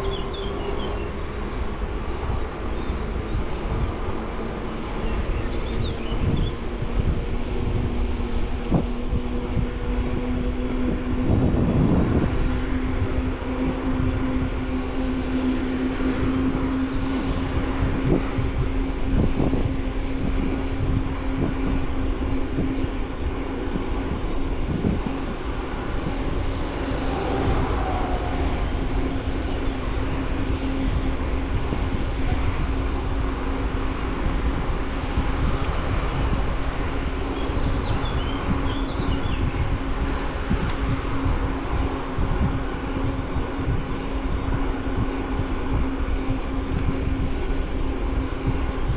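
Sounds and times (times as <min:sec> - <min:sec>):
bicycle tyres rumbling: 0:00.0 - 0:48.9
steady hum: 0:00.0 - 0:48.9
wind on microphone: 0:00.0 - 0:48.9.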